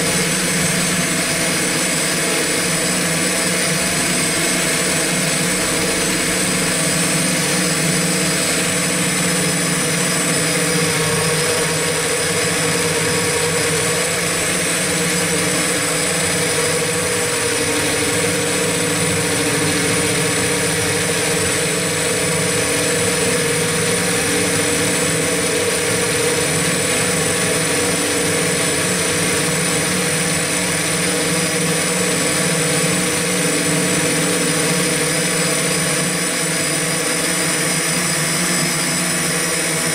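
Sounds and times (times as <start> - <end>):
drone motors whining: 0.0 - 39.7.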